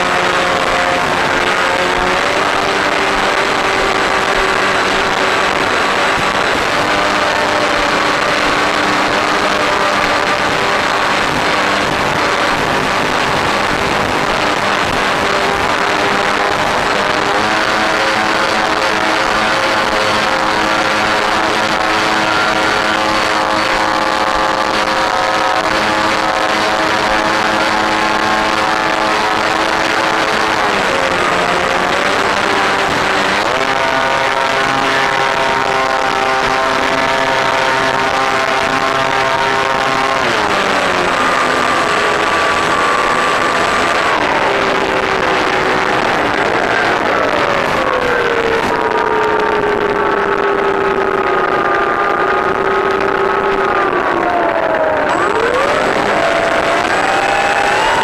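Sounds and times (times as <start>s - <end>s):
electric motor and propeller whine: 0.0s - 58.0s.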